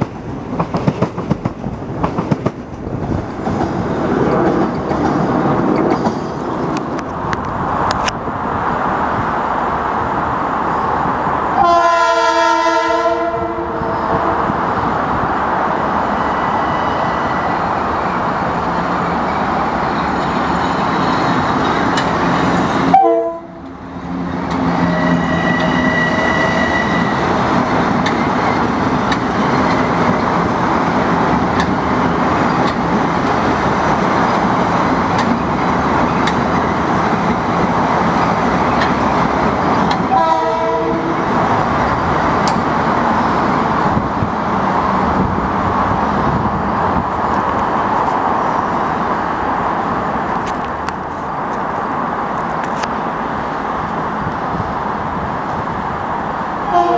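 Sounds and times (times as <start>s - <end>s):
train wheels rushing on rail: 0.0s - 56.9s.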